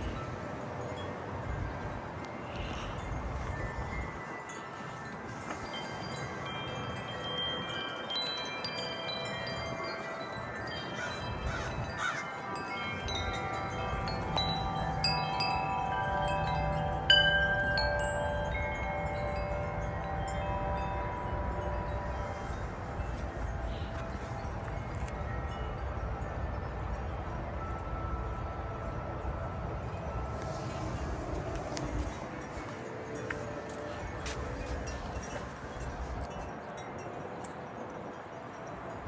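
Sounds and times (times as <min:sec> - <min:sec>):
wind rumbling on microphone: 0:00.0 - 0:37.4
wind chimes ringing: 0:00.0 - 0:39.0.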